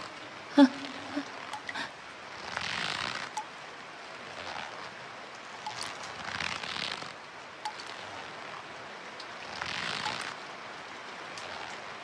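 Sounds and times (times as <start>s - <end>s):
crackling hiss: 0.0s - 12.0s.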